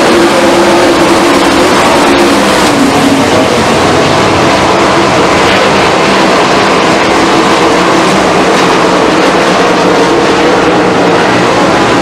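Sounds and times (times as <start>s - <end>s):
race car engines roaring: 0.0s - 12.0s.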